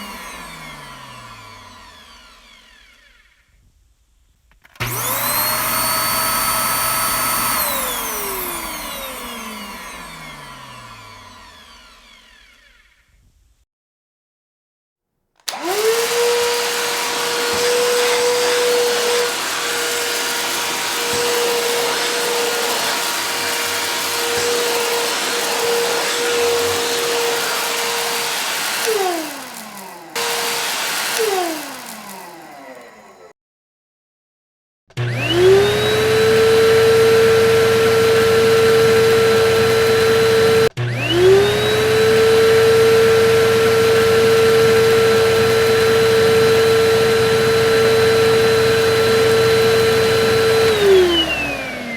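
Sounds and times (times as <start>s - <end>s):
vacuum cleaner whining: 0.0s - 3.7s, 4.6s - 13.4s, 15.4s - 33.4s, 34.9s - 51.9s.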